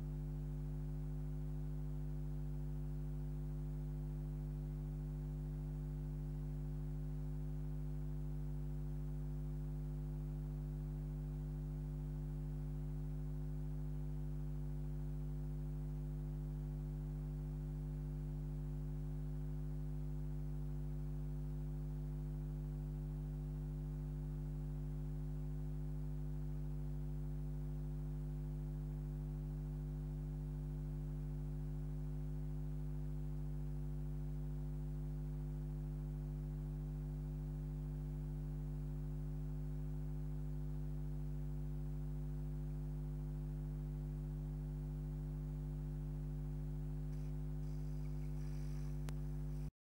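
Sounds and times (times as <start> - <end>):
low electrical hum: 0.0 - 49.7.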